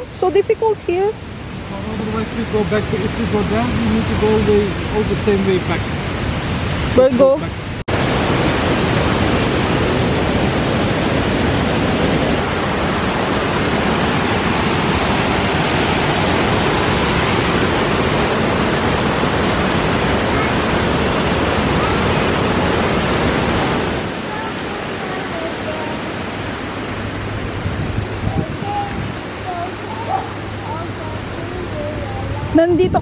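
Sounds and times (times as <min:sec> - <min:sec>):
waterfall rushing over rocks: 0:01.2 - 0:32.6.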